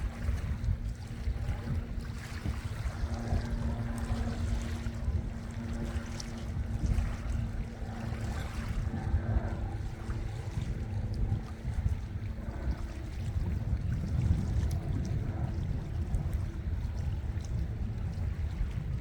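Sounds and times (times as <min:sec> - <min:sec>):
water noise: 0:00.0 - 0:19.0
wind buffeting microphone: 0:00.0 - 0:19.0.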